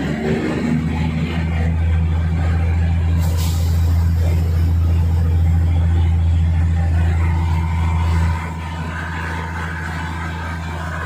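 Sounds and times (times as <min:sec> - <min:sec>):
diesel railcar engine droning: 0:00.0 - 0:11.0.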